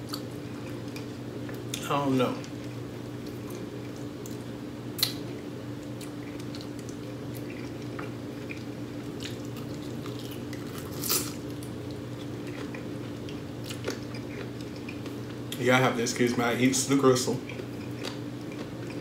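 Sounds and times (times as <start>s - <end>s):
man chewing food: 0.0s - 19.0s
steady low hum: 0.0s - 19.0s.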